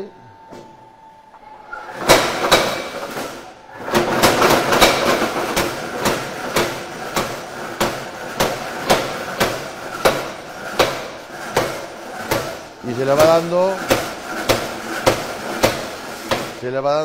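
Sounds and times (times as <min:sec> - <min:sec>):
power hammer striking hot steel: 0:01.7 - 0:16.6.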